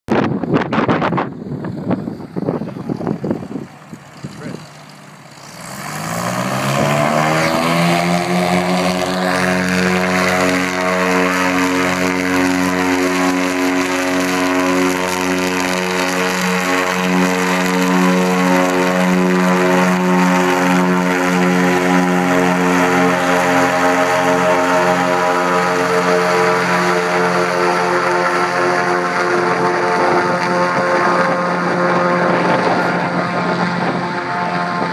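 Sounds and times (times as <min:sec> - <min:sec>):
piston engines and propellers: 0:00.1 - 0:34.9.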